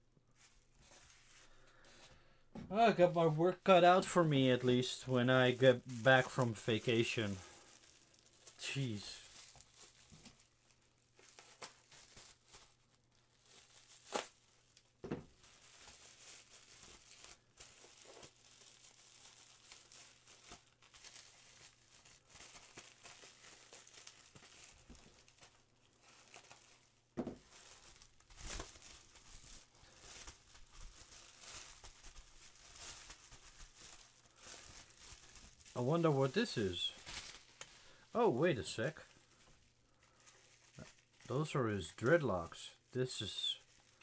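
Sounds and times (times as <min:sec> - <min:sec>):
bubble wrap and plastic rustling: 0:00.0 - 0:44.0.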